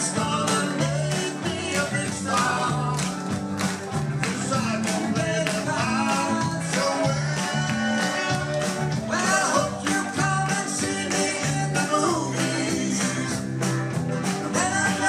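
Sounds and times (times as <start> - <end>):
person singing: 0.0 - 3.3, 4.2 - 13.8, 14.4 - 15.0
live rock band playing: 0.0 - 15.0.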